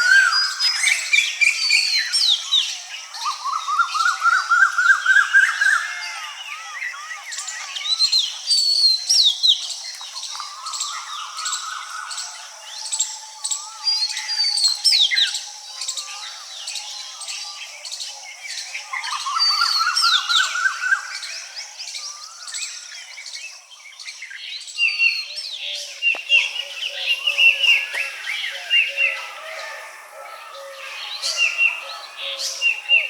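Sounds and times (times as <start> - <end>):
birds whistling and calling: 0.0 - 33.0.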